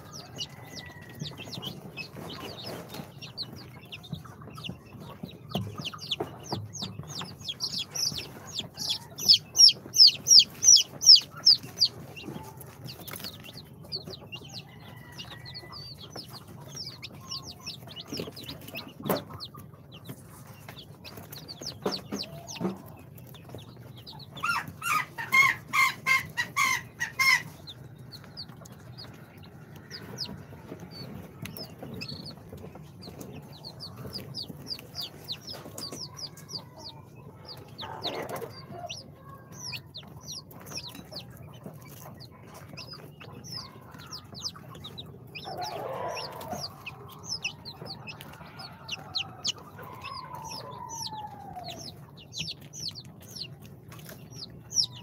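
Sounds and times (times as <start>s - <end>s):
chicks peeping: 0.0s - 55.0s
clucks: 0.0s - 55.0s.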